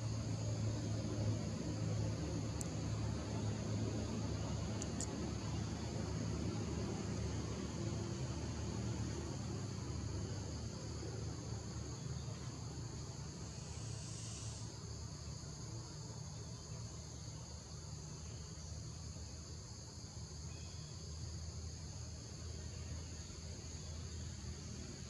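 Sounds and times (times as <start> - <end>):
insects buzzing: 0.0 - 25.0
low steady rumble: 0.0 - 25.0.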